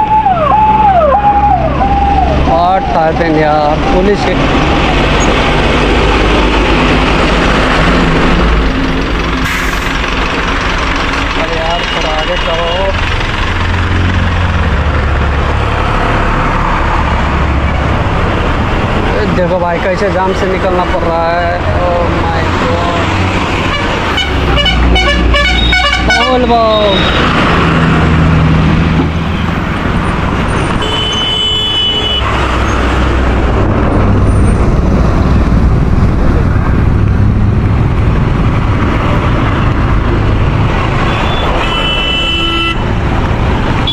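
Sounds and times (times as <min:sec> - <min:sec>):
truck engines idling: 0:00.0 - 0:41.6
road noise: 0:00.0 - 0:43.9.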